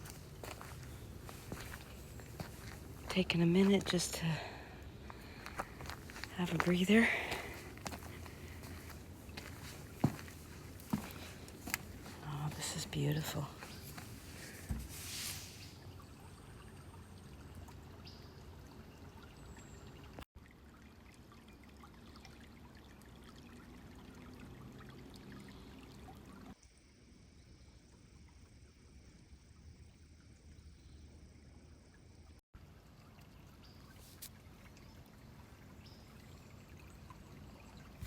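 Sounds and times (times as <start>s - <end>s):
creek trickling and babbling: 0.0s - 26.6s, 31.8s - 38.0s.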